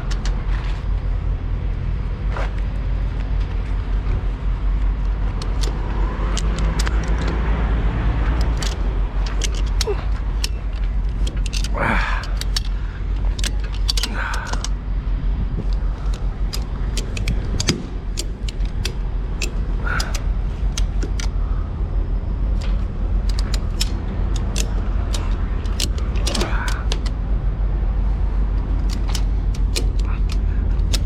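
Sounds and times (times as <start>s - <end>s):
ratchet straps clicking and creaking: 0.0s - 31.0s.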